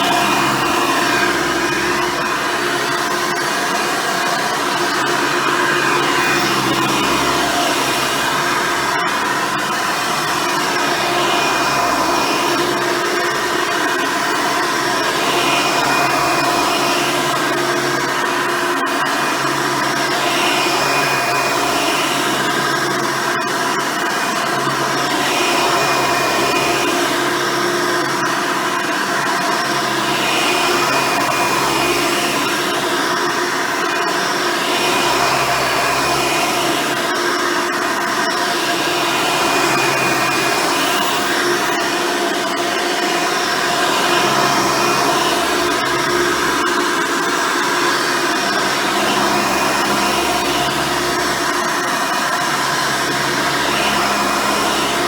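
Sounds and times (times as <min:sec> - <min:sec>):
upright vacuum cleaner whine: 0:00.0 - 0:55.0.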